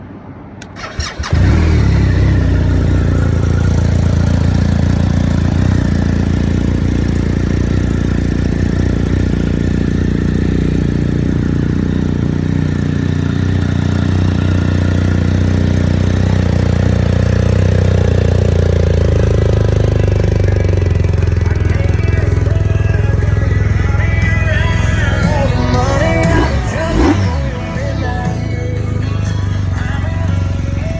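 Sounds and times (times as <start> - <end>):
motorcycle engine idling: 0.6 - 30.9
motorcycle engine starter cranking: 0.6 - 30.9.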